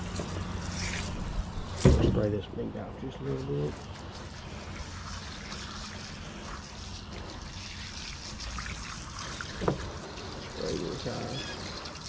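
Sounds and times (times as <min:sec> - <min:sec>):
hose nozzle spraying water: 0:00.0 - 0:02.2, 0:03.3 - 0:12.0.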